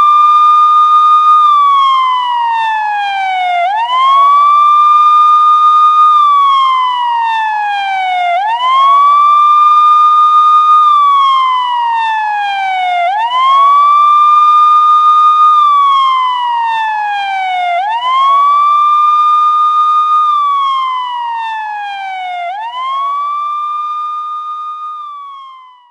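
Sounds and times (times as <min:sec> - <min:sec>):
police siren wailing: 0:00.0 - 0:25.9.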